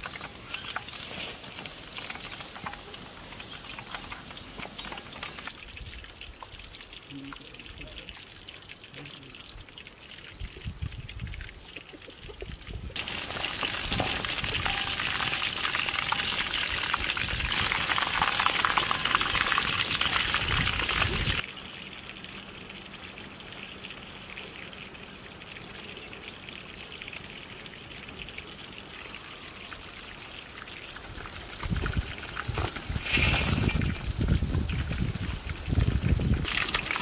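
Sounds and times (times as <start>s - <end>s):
food deep-frying in hot oil: 0.0s - 37.0s.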